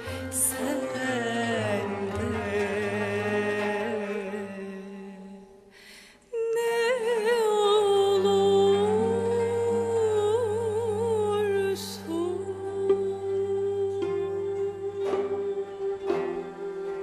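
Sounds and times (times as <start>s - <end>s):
woman singing ornamented notes: 0.0s - 5.6s, 6.4s - 17.0s
small traditional ensemble: 0.0s - 17.0s.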